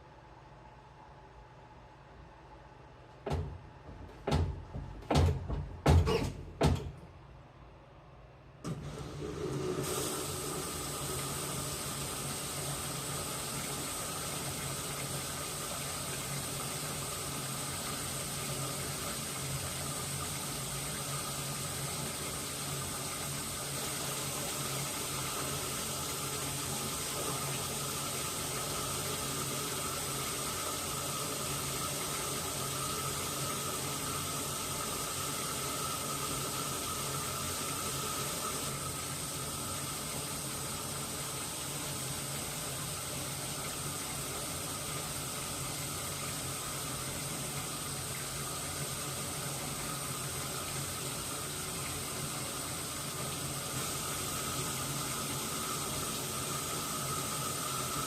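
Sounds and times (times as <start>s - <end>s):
water hissing in washing machine: 8.7s - 58.0s.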